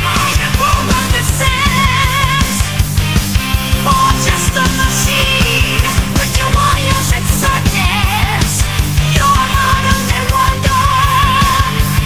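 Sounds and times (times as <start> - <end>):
heavy metal song: 0.0 - 12.0.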